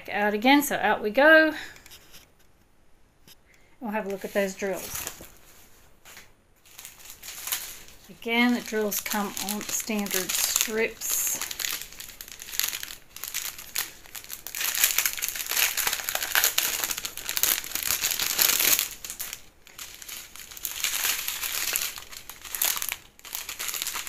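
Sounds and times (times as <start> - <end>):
plastic packaging crinkling: 4.0 - 24.0.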